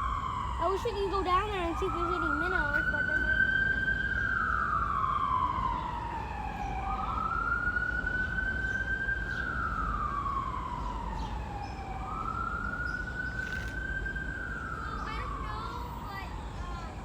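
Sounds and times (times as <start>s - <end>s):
emergency vehicle siren wailing: 0.0s - 17.0s
low city traffic rumble: 0.0s - 17.0s.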